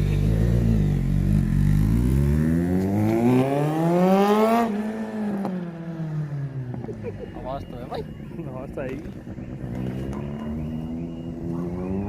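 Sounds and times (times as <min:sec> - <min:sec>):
motorcycle passing by: 0:00.0 - 0:06.8, 0:09.0 - 0:12.0.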